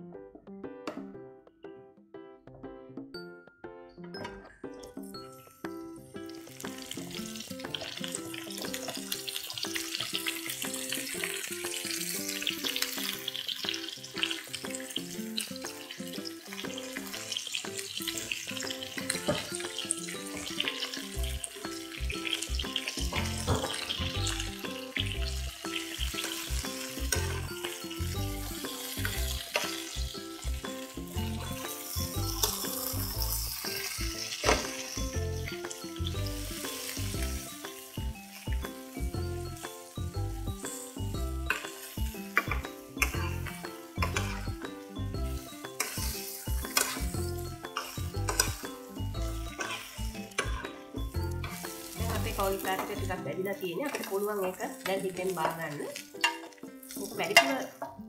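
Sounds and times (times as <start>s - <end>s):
spoon turning food in pan: 4.8s - 58.0s
vegetables sizzling in oil: 5.3s - 58.0s.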